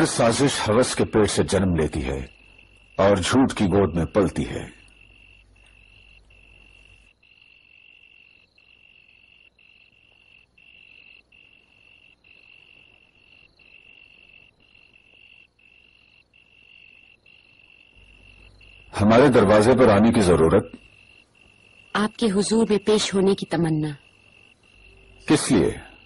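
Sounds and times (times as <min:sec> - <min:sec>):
faint cricket trilling: 0:00.0 - 0:26.0.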